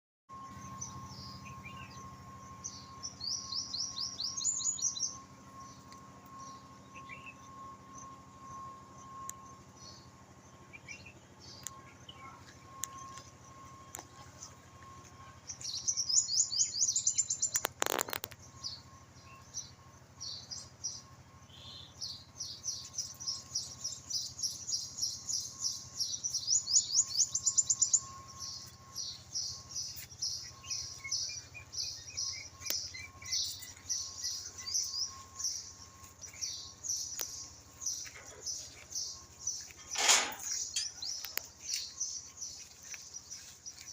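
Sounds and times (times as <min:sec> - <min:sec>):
small birds chirping: 0:00.4 - 0:43.9.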